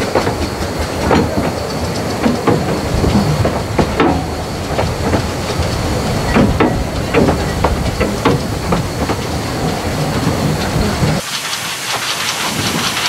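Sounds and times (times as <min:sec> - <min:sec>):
steam hiss: 0:00.0 - 0:13.0
train knocks and clatter: 0:00.0 - 0:13.0.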